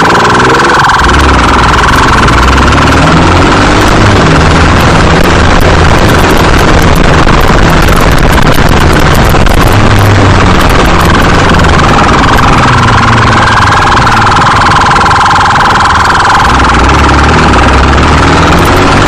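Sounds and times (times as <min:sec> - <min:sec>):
motorcycle engine revving: 0:00.0 - 0:19.0
wind rushing over microphone: 0:00.0 - 0:19.0.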